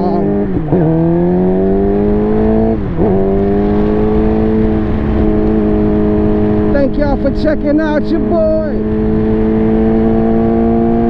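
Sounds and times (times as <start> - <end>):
motorcycle engine revving: 0.0 - 11.0
wind and road noise: 0.0 - 11.0.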